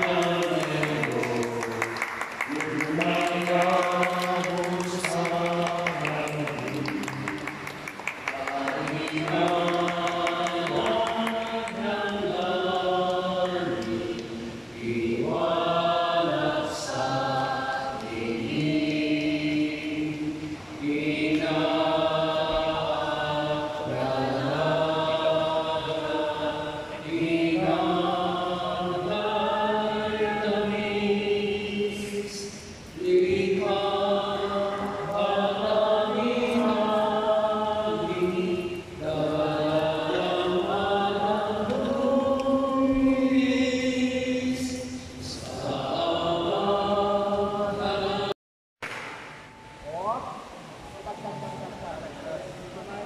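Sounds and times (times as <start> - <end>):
choir chanting: 0.0 - 48.4.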